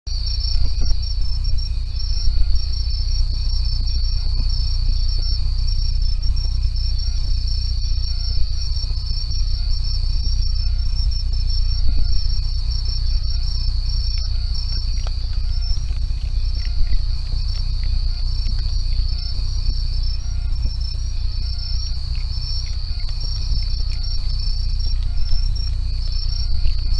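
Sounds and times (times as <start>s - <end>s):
crickets chirping chorus: 0.1s - 26.9s
low rumble: 0.1s - 26.9s.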